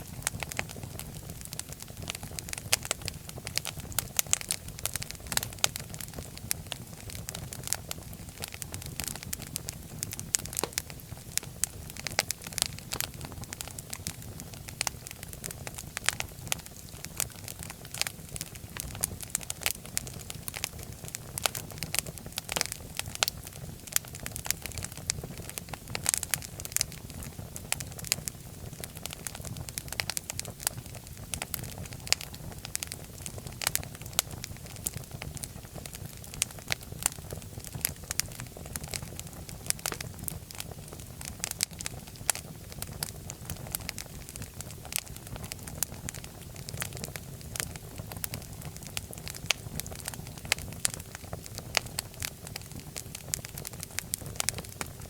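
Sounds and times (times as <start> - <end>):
fire crackling and popping: 0.0 - 55.0
low rumble of flames: 0.0 - 55.0.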